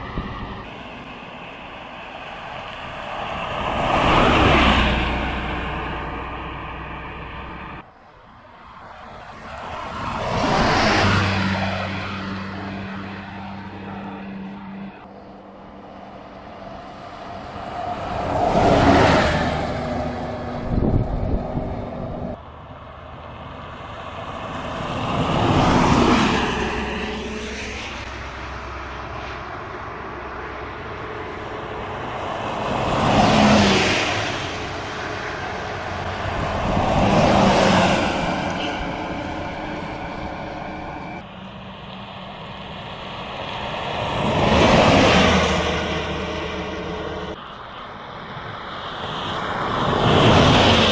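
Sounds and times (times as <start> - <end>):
buses driving past: 0.0 - 50.9.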